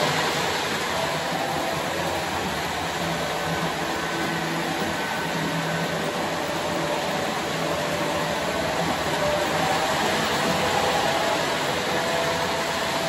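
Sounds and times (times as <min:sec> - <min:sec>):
faint steady hum: 0:00.0 - 0:13.0
model trains whirring on rails: 0:00.0 - 0:13.0.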